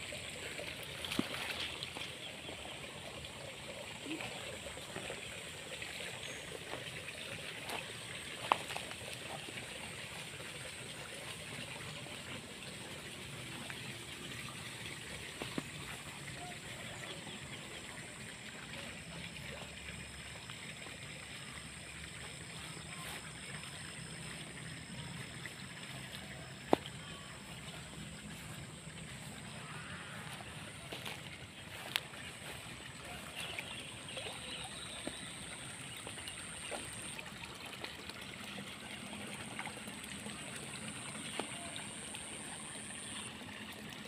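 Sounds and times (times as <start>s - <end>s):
water trickling and running: 0.0s - 44.0s.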